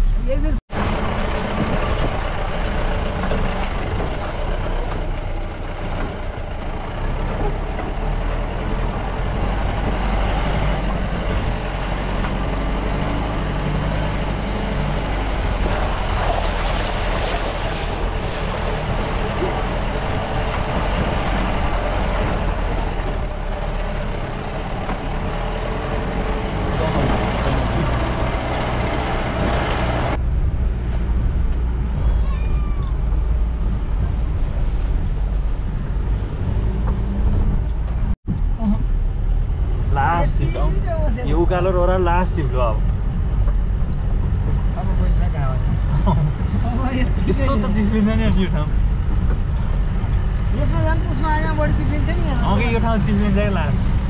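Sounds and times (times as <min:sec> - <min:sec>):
car engine running under load: 0:00.0 - 0:32.2, 0:32.9 - 0:54.0
tyre and road noise: 0:00.0 - 0:54.0.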